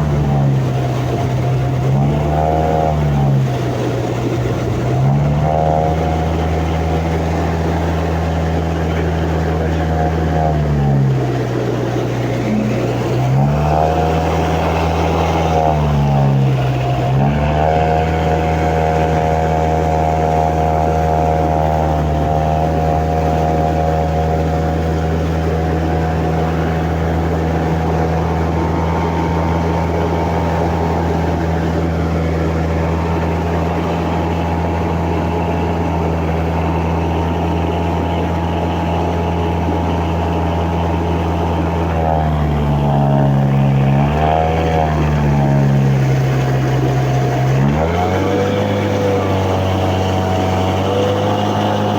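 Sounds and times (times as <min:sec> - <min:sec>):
engine running under load: 0:00.0 - 0:51.9
wheels churning water: 0:00.0 - 0:51.9.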